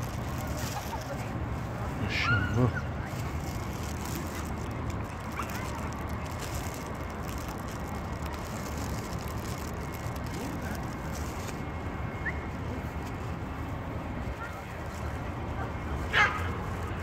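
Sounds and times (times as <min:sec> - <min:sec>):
distant city traffic rumble: 0:00.0 - 0:17.0.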